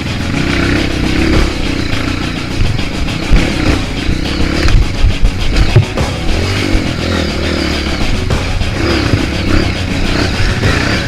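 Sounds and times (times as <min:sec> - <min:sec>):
motorcycle engine revving: 0:00.0 - 0:11.0
music playing: 0:00.0 - 0:11.0.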